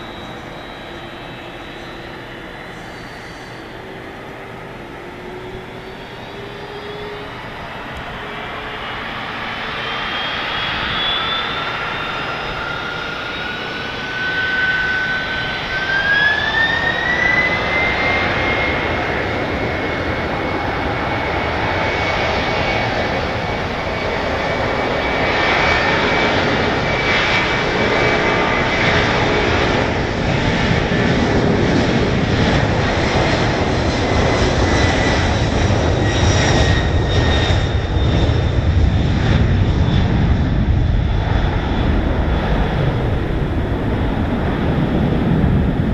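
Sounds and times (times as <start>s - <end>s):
deep jet roar: 0.0s - 45.9s
jet engines whining: 0.0s - 45.9s.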